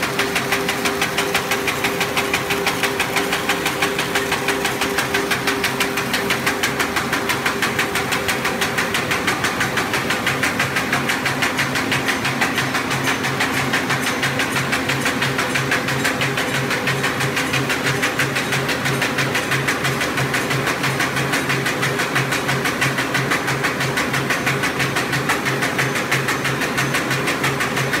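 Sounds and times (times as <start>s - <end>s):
paper bag machine clattering: 0.0s - 28.0s.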